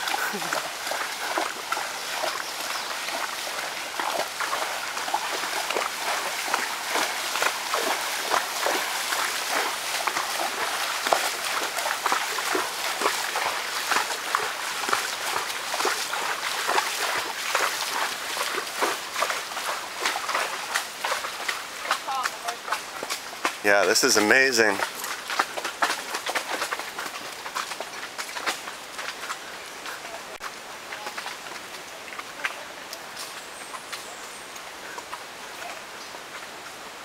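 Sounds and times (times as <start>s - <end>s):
flowing water: 0.0s - 37.0s
hooves splashing in water: 0.0s - 37.0s.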